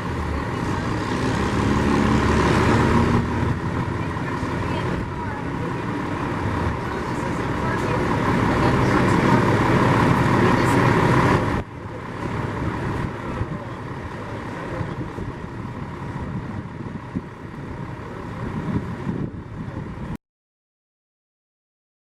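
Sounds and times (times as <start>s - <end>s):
vehicle and traffic noise: 0.0s - 20.2s.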